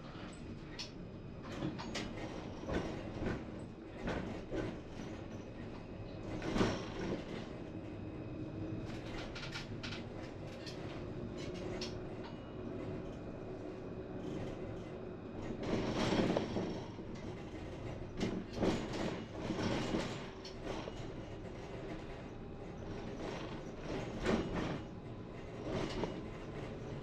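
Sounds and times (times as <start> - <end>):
tram rolling on rails: 0.0 - 27.0.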